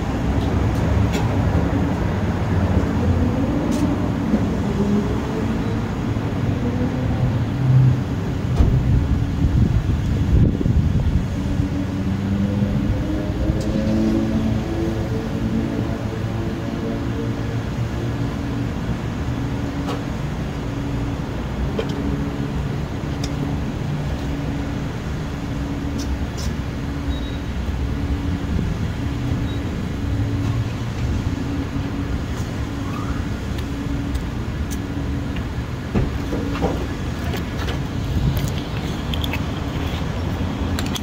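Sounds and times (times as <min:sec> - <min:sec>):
vehicle engine rumbling: 0:00.0 - 0:41.0.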